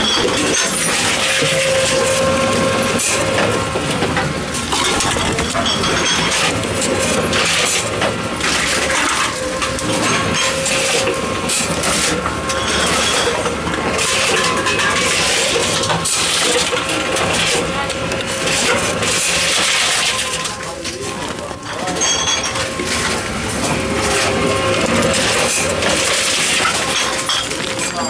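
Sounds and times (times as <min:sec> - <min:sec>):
plastic bottles clattering: 0:03.0 - 0:28.0.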